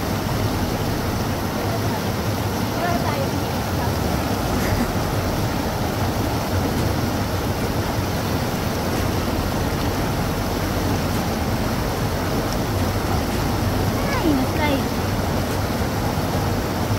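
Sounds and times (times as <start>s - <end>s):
fast river rushing over rocks: 0.0s - 16.9s.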